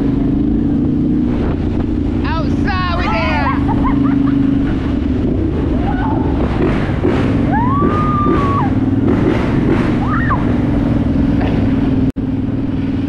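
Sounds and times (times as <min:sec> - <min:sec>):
dirtbike engine running: 0:00.0 - 0:13.0.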